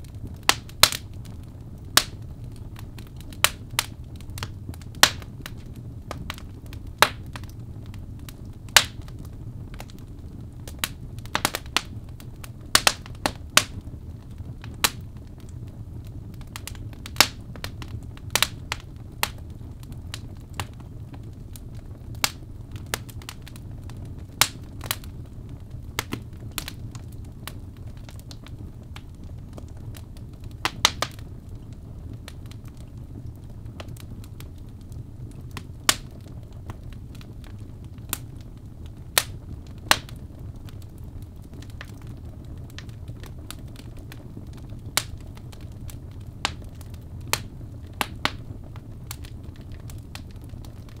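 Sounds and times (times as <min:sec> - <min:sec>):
logs crackling and popping: 0:00.0 - 0:51.0
low rumble of fire: 0:00.0 - 0:51.0.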